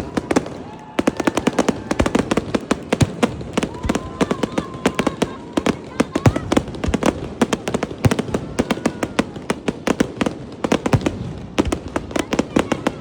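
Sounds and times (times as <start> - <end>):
fireworks crackling bangs: 0.0 - 13.0.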